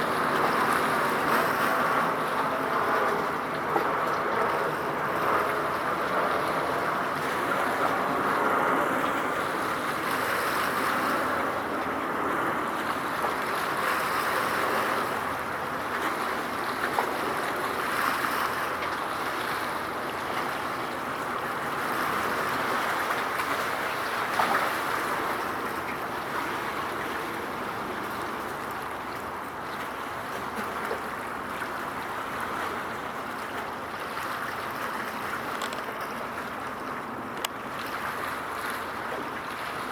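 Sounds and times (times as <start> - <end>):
water washing at shoreline: 0.0 - 39.9.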